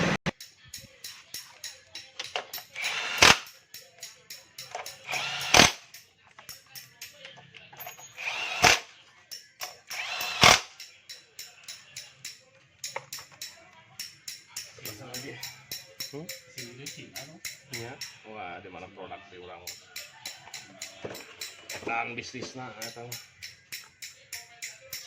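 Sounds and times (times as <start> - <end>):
music with tapping beat: 0.0 - 7.2, 9.3 - 18.2, 19.7 - 25.0.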